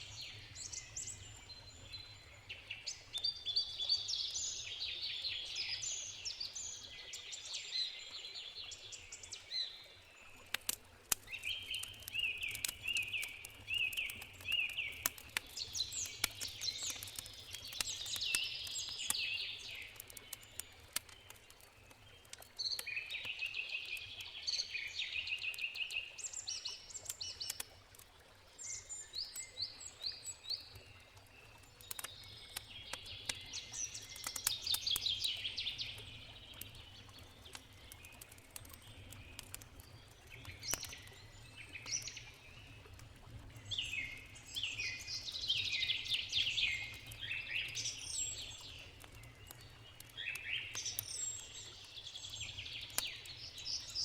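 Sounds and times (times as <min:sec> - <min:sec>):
songbirds singing: 0:00.0 - 0:27.8, 0:28.5 - 0:54.0
campfire crackling: 0:10.2 - 0:54.0.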